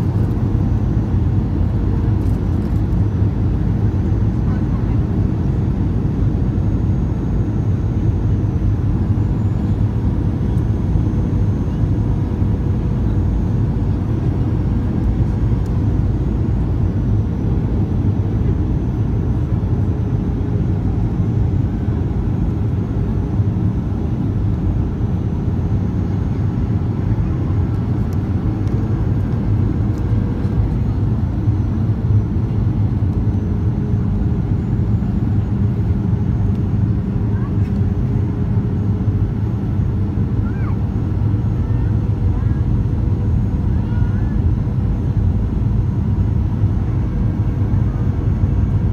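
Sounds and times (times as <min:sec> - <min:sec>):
aircraft engines rumbling: 0:00.0 - 0:48.9
faint held hum: 0:00.0 - 0:48.9.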